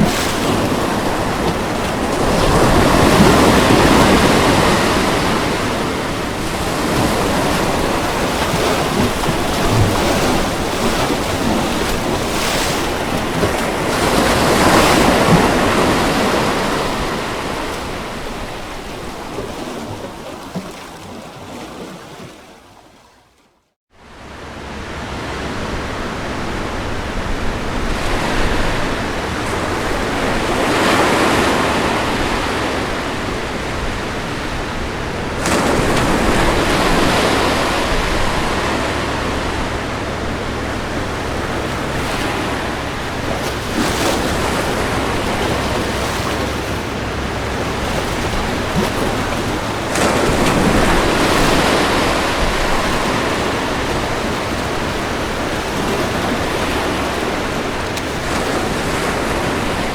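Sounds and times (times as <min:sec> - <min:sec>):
surf hissing ashore: 0:00.0 - 0:23.0, 0:24.0 - 0:59.9
waves breaking: 0:00.0 - 0:23.4, 0:24.0 - 0:59.9.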